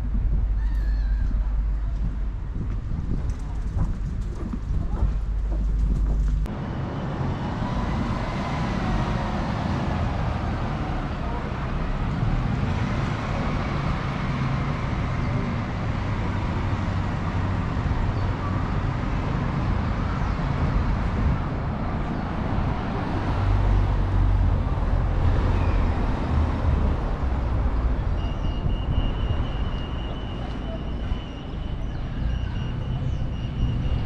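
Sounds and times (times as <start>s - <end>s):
road traffic noise: 0.0s - 34.0s
wind buffeting microphone: 0.0s - 34.0s.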